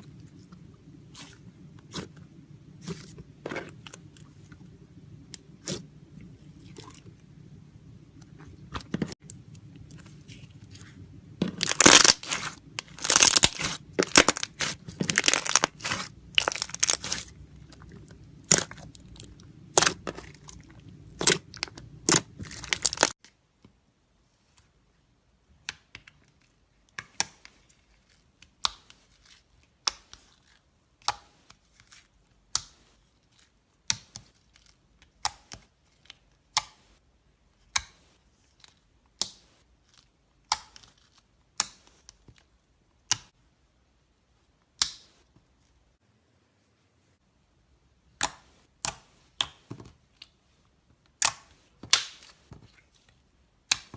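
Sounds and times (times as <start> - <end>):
low background hum: 0.0 - 53.9.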